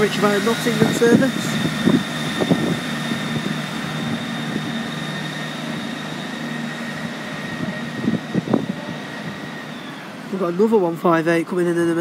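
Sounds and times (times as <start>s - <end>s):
diesel train engines droning: 0.0s - 12.0s.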